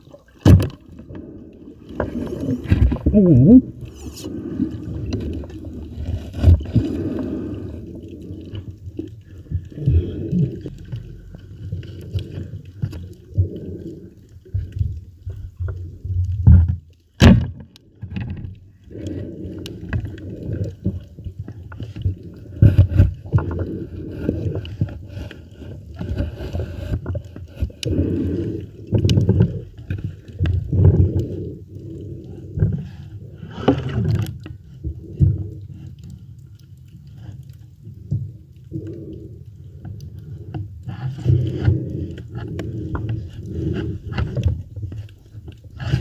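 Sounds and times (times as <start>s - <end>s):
underwater knocks and clicks: 0.0s - 46.0s
underwater sloshing and gurgling: 0.0s - 46.0s.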